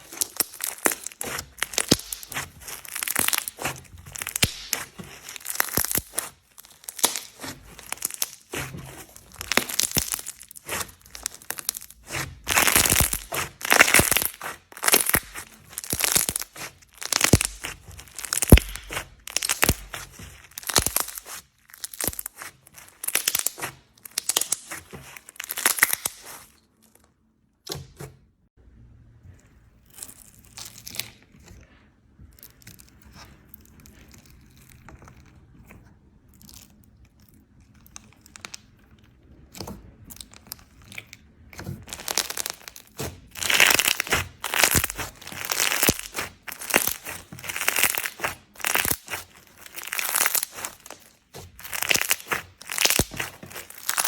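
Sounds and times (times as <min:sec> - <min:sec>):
slime squishing and crackling: 0:00.0 - 0:27.8, 0:29.5 - 0:54.0.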